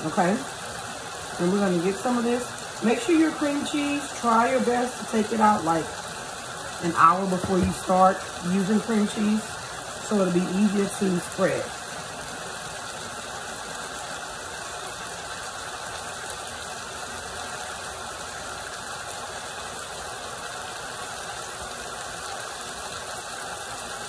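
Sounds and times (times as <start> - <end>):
chicken sizzling in a skillet: 0.3 - 20.0.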